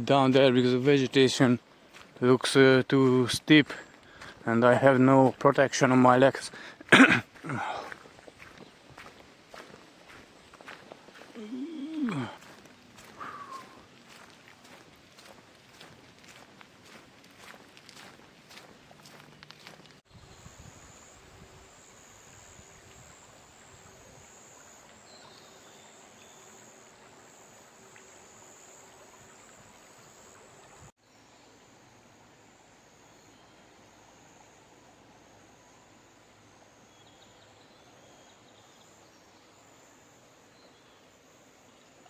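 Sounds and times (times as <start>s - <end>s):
insects pulsing chirr: 3.0s - 19.3s, 20.1s - 42.0s.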